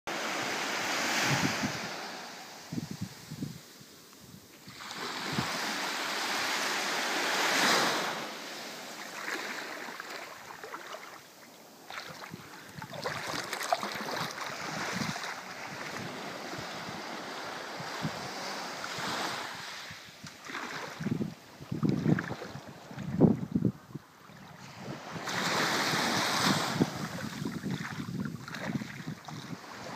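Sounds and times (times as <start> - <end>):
sea waves washing onto beach: 0.1 - 23.4, 24.6 - 29.9.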